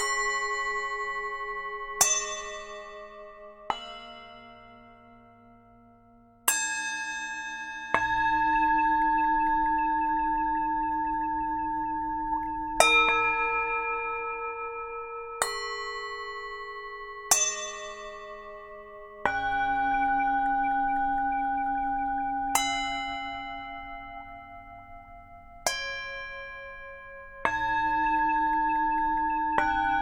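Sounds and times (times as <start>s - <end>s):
singing bowls ringing: 0.0s - 3.8s, 7.9s - 30.0s.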